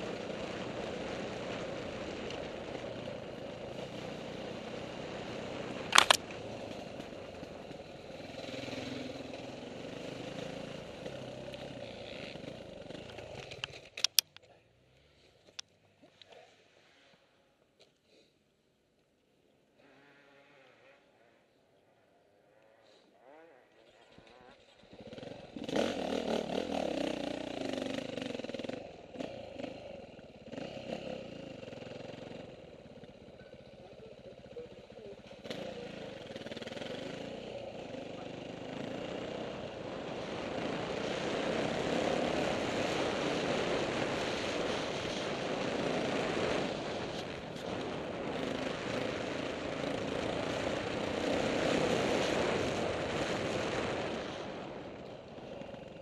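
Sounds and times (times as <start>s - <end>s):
dirt bike engine revving: 0.0s - 13.6s, 19.8s - 21.1s, 22.7s - 33.5s, 34.4s - 54.7s.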